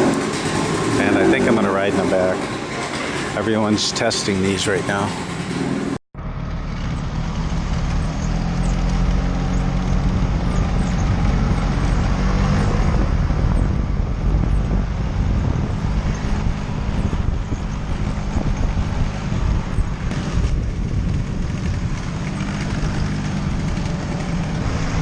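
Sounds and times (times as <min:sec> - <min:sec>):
scooter engine humming: 0:00.0 - 0:03.8, 0:05.2 - 0:25.0
road and wind noise: 0:00.0 - 0:25.0.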